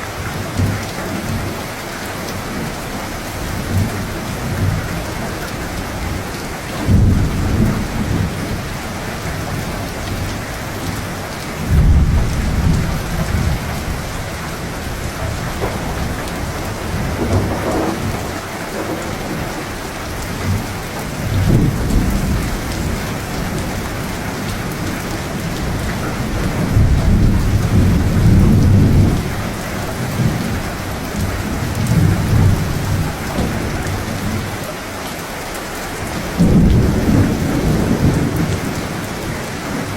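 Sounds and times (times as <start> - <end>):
heavy rain: 0.0 - 39.9
rolling thunder: 2.5 - 34.6, 36.0 - 39.9.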